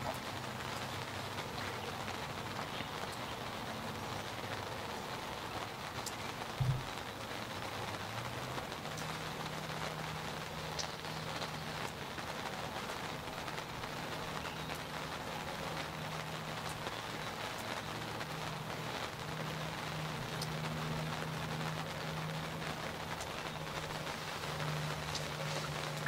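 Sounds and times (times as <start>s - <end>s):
rain on fabric: 0.0s - 26.0s
raindrops ticking: 0.0s - 26.0s.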